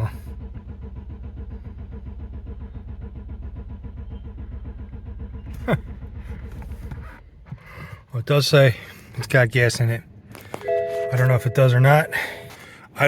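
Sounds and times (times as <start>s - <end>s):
car engine cranking without starting: 0.0s - 13.0s.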